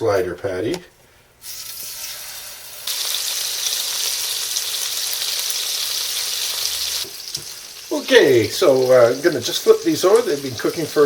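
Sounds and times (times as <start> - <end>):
patties sizzling in oil: 1.4 - 11.0.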